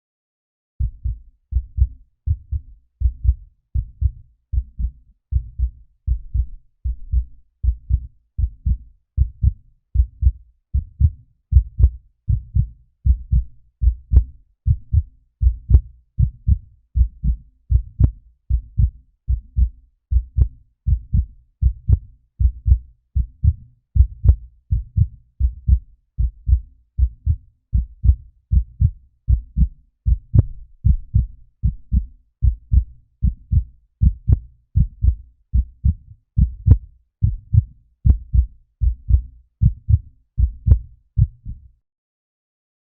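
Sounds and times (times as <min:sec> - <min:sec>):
heartbeat double thumps: 0:00.8 - 0:41.7.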